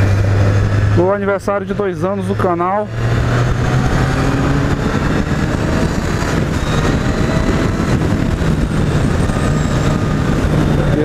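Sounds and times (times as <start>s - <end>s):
motorcycle engine cruising: 0.0s - 11.0s
wind noise: 0.0s - 11.0s.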